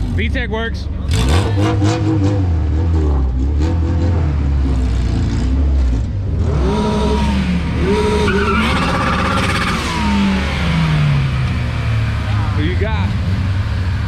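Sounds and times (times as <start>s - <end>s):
car engines idling: 0.0s - 14.0s
engine revving: 0.0s - 14.0s.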